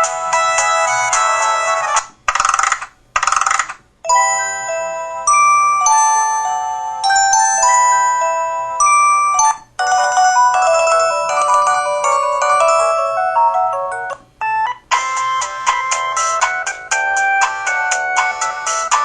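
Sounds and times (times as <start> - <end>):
mobile phone ringtone melodies: 0.0 - 2.0, 4.0 - 19.0.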